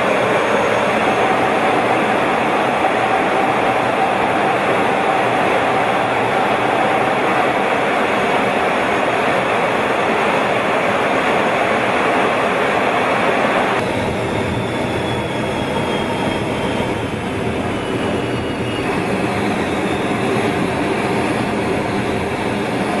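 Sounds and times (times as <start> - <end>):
jet engine and rushing air: 0.0 - 23.0.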